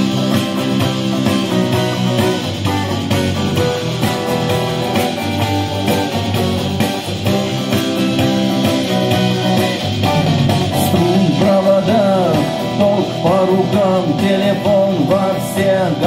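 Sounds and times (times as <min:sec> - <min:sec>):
bass line: 0:00.0 - 0:16.0
bending guitar melody: 0:00.0 - 0:16.0
strummed guitar chords: 0:00.0 - 0:16.0.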